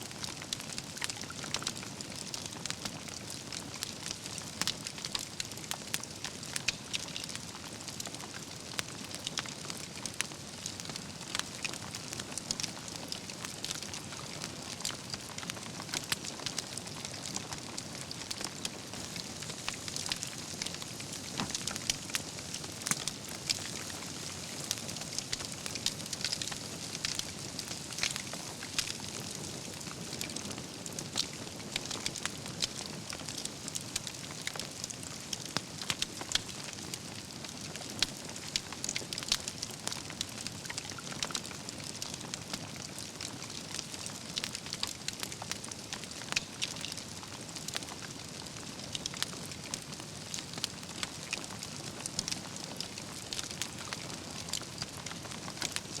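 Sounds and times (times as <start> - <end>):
wood fire crackling: 0.1 - 56.0.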